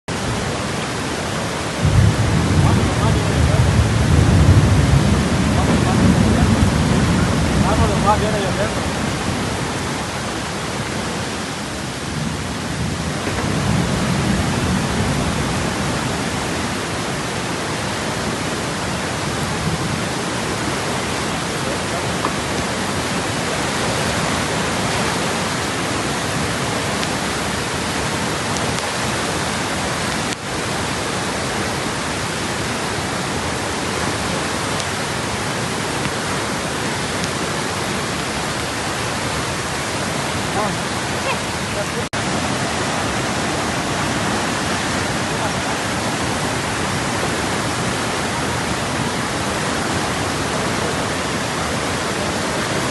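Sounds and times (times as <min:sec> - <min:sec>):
river water rushing: 0:00.1 - 0:52.9.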